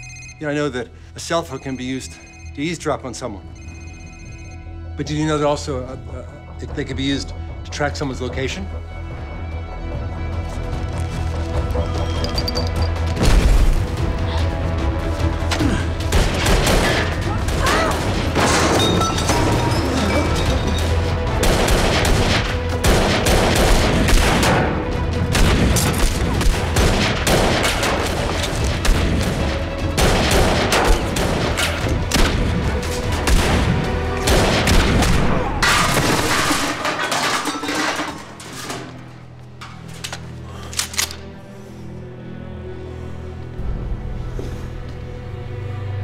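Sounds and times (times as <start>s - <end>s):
dramatic music: 0.0s - 46.0s.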